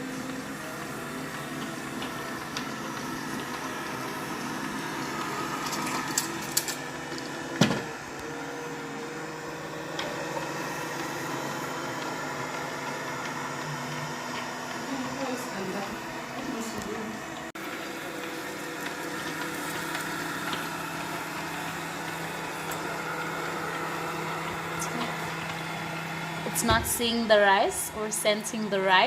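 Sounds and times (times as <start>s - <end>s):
robot vacuum motor whirr: 0.0s - 29.0s.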